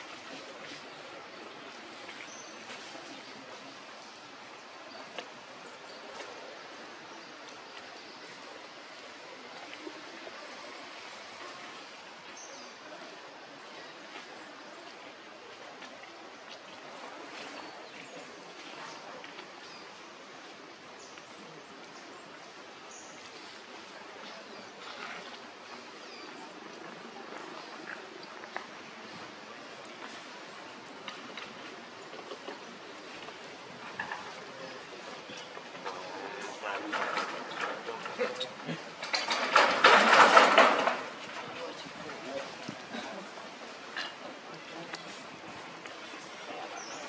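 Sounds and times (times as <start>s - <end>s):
steady outdoor hiss: 0.0s - 47.0s.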